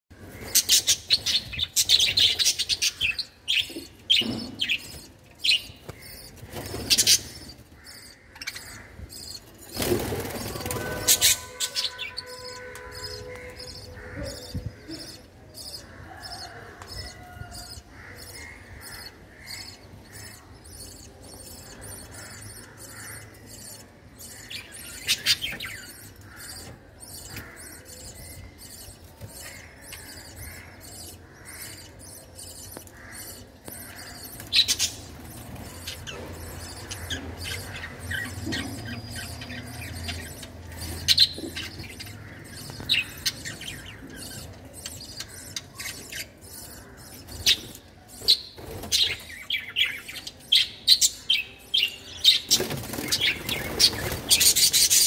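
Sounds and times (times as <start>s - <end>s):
budgerigars chirping: 0.2s - 55.0s.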